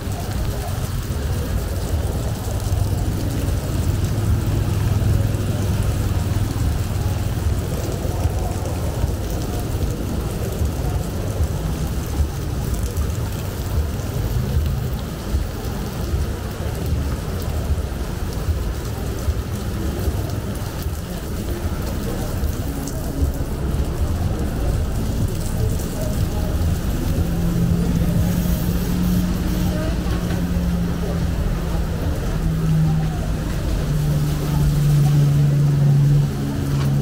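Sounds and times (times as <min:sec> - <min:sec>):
rain spatters: 0:00.0 - 0:37.0
steady rain hiss: 0:00.0 - 0:37.0.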